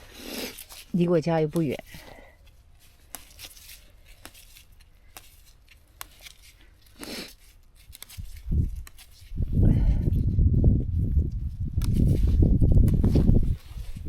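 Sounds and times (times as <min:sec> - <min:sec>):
rustling of greens being handled: 0:00.0 - 0:09.6, 0:10.8 - 0:14.0.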